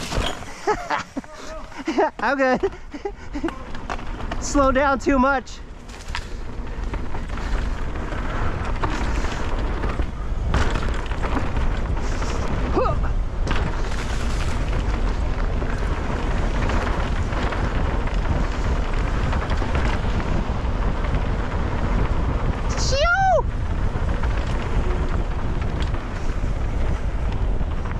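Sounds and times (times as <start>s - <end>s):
bike knocks and rattles: 0.0s - 27.9s
tyre noise on dirt: 0.0s - 27.9s
wind buffeting microphone: 0.0s - 27.9s.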